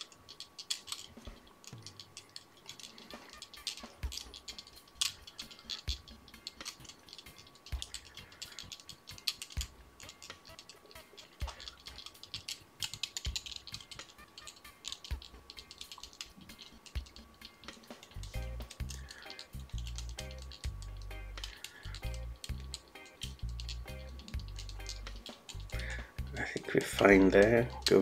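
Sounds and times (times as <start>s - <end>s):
thread wrapping clicks and rustles: 0.0s - 28.0s.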